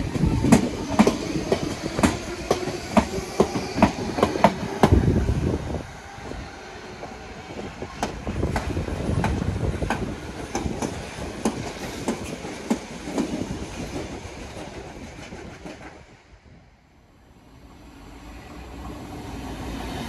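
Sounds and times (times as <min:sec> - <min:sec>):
electric train running past: 0:00.0 - 0:20.0.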